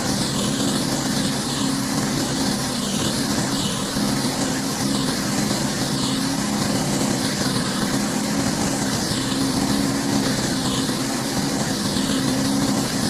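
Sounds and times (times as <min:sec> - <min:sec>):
pressure washer engine hum: 0:00.0 - 0:13.0.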